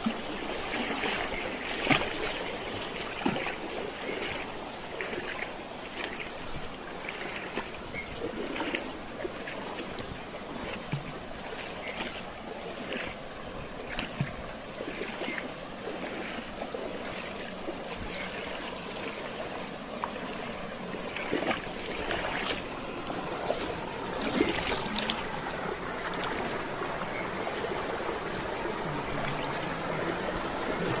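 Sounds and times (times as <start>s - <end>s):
flowing water rushing: 0.0s - 31.0s
small water splashes: 0.0s - 31.0s.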